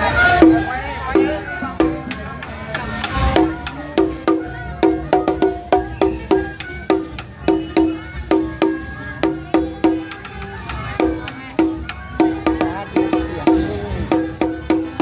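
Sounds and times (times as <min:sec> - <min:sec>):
small drum struck with stick: 0:00.4 - 0:15.0.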